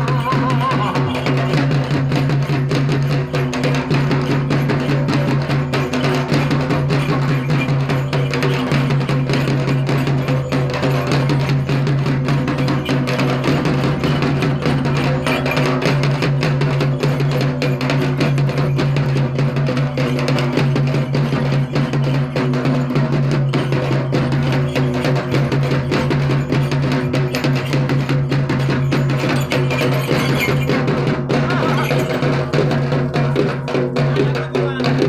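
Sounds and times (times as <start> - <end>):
barrel drums beaten fast: 0.0 - 35.0.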